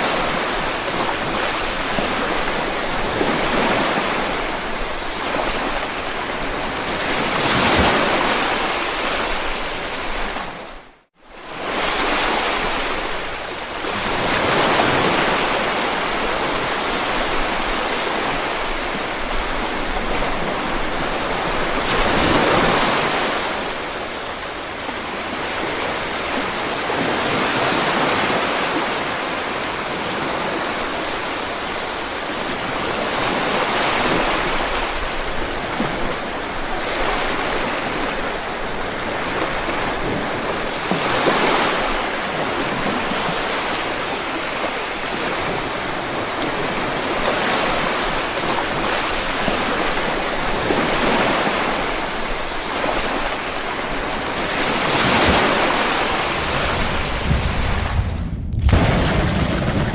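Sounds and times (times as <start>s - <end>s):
heavy rainfall: 11.7s - 59.9s.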